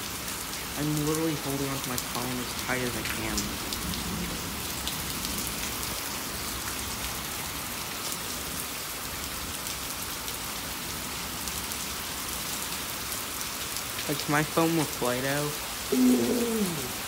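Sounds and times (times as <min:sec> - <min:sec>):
rain on a wet street: 0:00.0 - 0:17.0.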